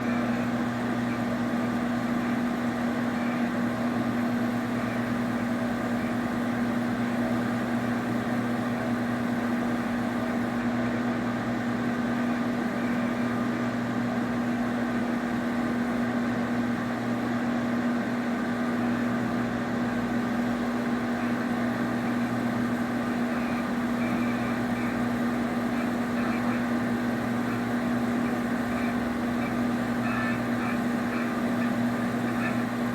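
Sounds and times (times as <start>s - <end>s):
machine hum: 0.0s - 17.1s, 18.0s - 32.9s.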